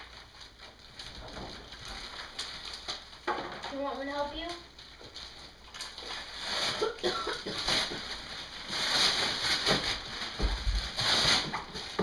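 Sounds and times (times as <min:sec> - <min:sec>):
wrapping paper tearing and rustling: 0:00.0 - 0:12.0.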